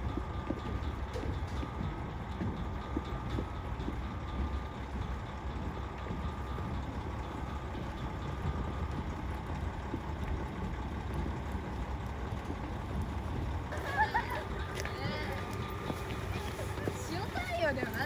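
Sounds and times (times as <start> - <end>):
diesel railcar engine idling: 0.0 - 18.0.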